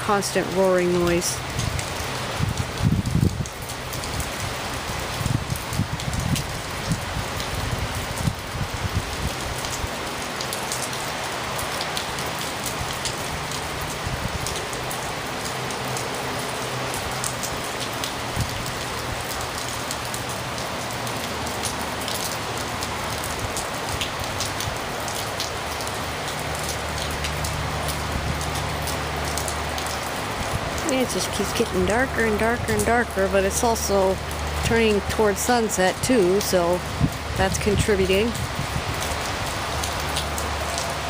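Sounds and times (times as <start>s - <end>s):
freeway traffic roar: 0.0s - 41.0s
heavy rain falling: 0.0s - 41.0s.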